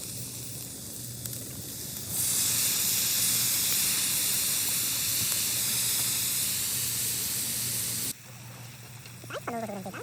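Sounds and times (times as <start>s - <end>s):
food sizzling in pan: 0.0s - 8.2s.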